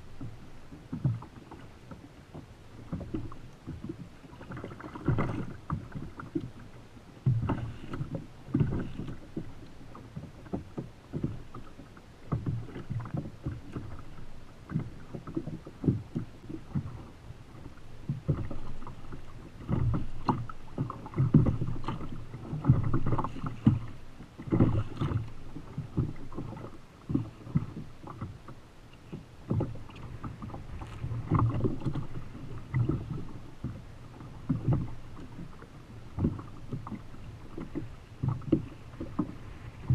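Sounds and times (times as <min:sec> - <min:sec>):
waves slapping against kayak hull: 0:00.0 - 0:39.9
wind: 0:00.0 - 0:39.9.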